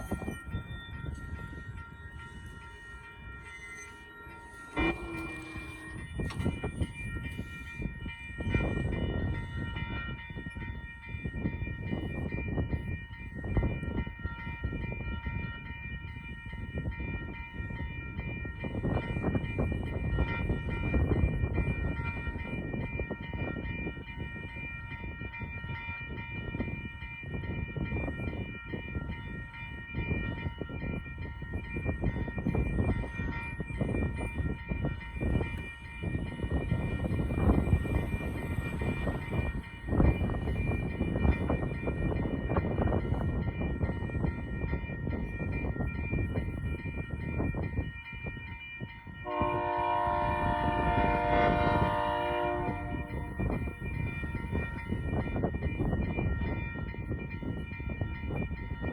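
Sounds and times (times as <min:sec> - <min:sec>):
crossing warning bell ringing: 0:00.0 - 0:58.9
train rumbling on rails: 0:00.0 - 0:58.9.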